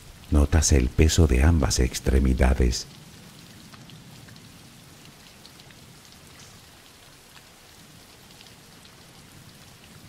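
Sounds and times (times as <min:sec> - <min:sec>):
steady rain falling: 0:00.0 - 0:10.0
faint raindrop ticks: 0:00.1 - 0:10.0.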